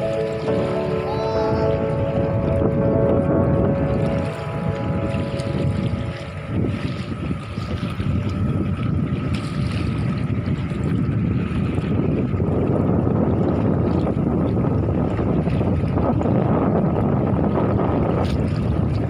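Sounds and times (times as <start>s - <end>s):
sea water: 0.0s - 19.0s
wind on microphone: 0.0s - 19.0s.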